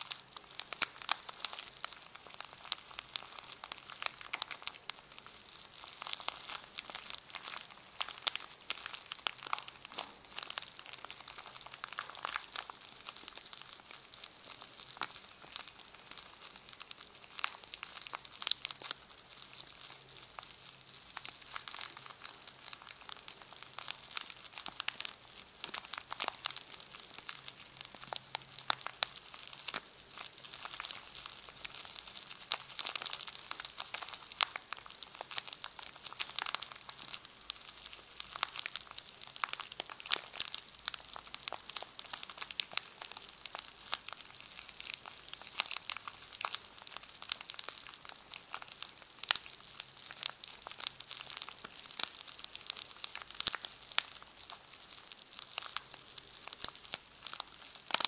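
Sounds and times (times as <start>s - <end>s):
packaging crinkling: 0.0s - 58.0s.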